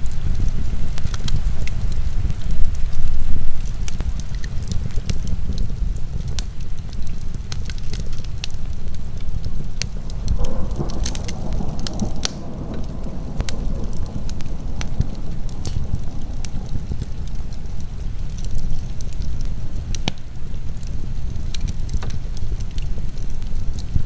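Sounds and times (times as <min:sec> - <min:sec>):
heavy rain: 0:00.0 - 0:24.0
wood fire crackling: 0:00.0 - 0:24.0.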